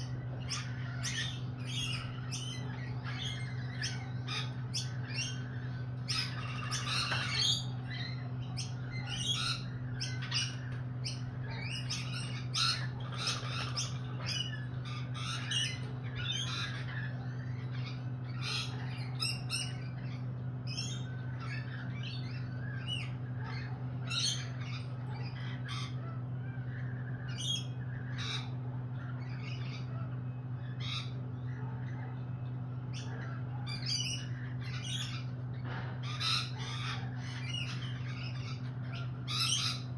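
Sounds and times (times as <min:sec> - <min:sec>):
lorikeets squawking: 0:00.0 - 0:39.9
steady low hum: 0:00.0 - 0:39.9.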